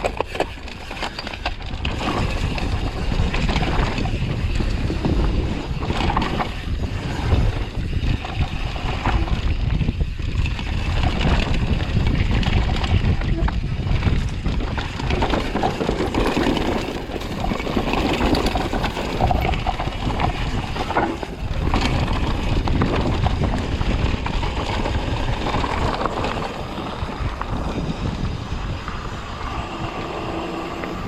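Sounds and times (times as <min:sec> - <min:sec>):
bike knocks and rattles: 0:00.0 - 0:29.2
tyres on rough ground: 0:00.0 - 0:31.0
wind on microphone: 0:00.0 - 0:31.0.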